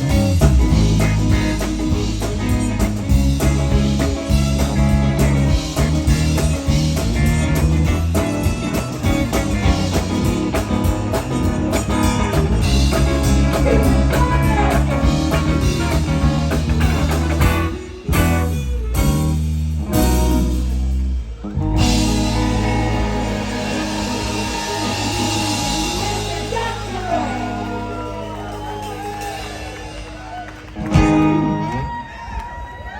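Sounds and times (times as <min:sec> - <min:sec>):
live blues-rock band: 0:00.0 - 0:32.6
electric guitar: 0:00.0 - 0:32.9.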